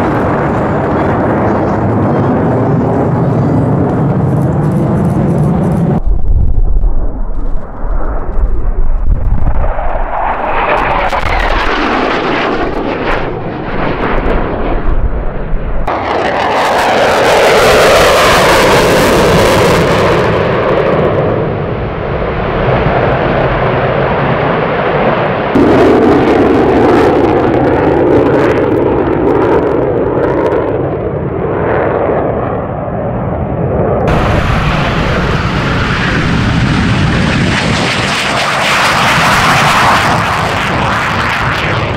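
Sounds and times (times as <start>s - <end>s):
fighter jets passing: 0.0s - 41.9s.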